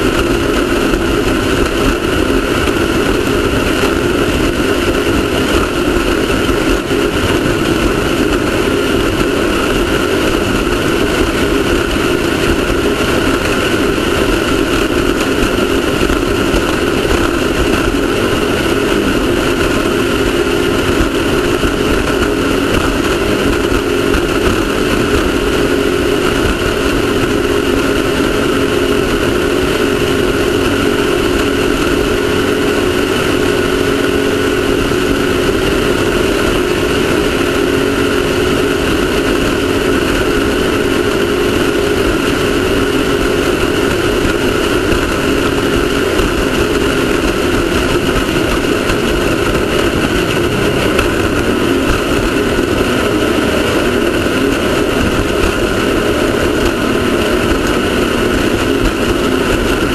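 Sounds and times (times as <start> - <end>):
constant rushing noise: 0.0 - 59.9
race car engine running: 0.0 - 59.9.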